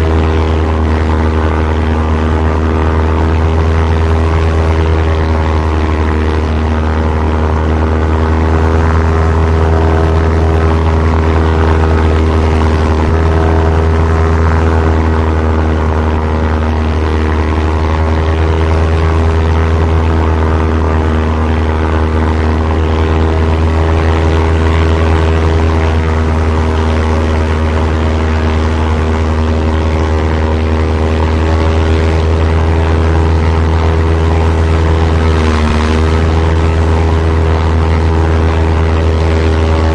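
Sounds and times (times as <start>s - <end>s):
propeller airplane engines droning: 0.0s - 39.9s.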